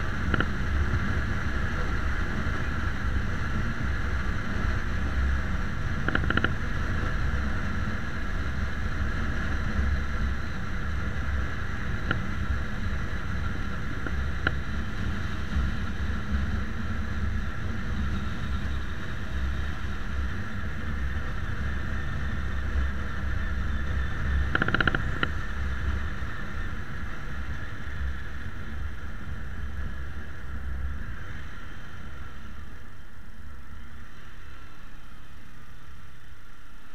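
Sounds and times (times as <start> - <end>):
wind and road noise: 0.0 - 36.9.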